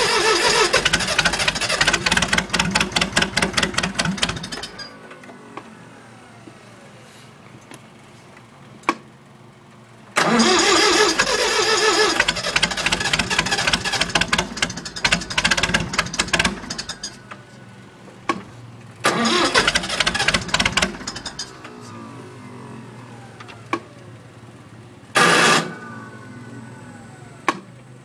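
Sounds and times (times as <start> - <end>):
tractor engine starting and running rough: 0.0 - 6.5, 10.1 - 28.0.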